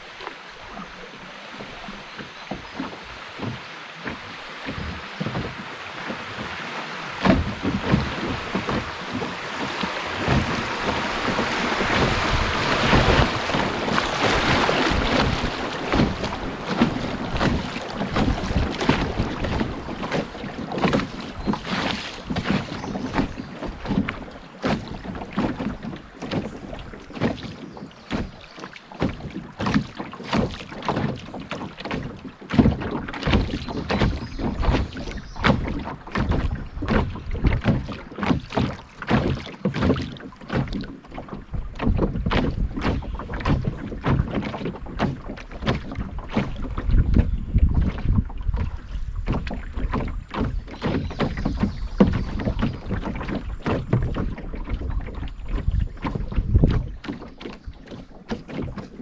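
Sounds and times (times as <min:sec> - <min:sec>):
rushing water: 0:00.0 - 0:59.0
water splashing around a canoe: 0:00.0 - 0:59.0.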